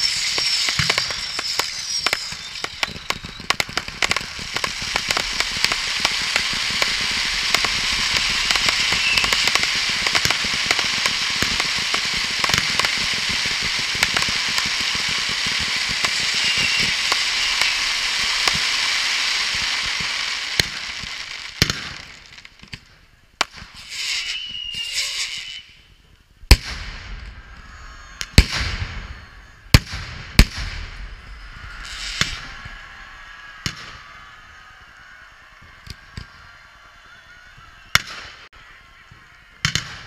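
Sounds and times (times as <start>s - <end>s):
firework whistle: 0.0s - 22.6s, 23.6s - 40.0s
firework bangs: 0.0s - 40.0s
firework fountains hissing and crackling: 0.0s - 40.0s.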